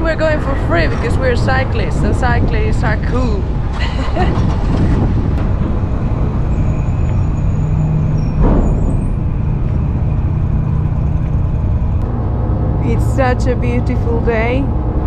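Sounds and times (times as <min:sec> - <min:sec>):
ferry engine drone: 0:00.0 - 0:15.0
wind on microphone: 0:00.0 - 0:15.0.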